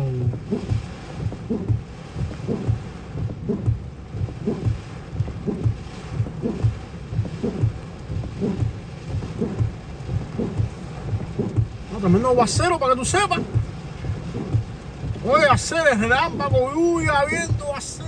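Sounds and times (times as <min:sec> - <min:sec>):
heavy rain on a car: 0:00.0 - 0:18.0
low repeating thump: 0:00.0 - 0:18.0
wind: 0:00.0 - 0:18.0.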